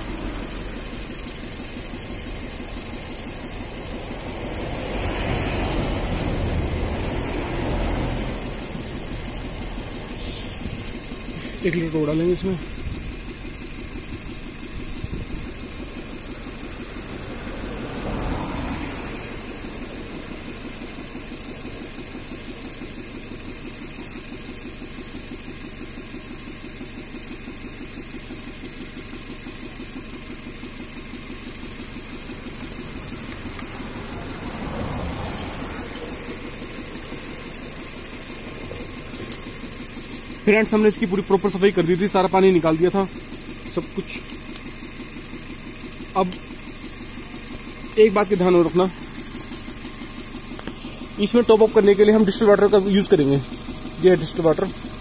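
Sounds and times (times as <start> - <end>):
small car engine idling: 0.0 - 55.0.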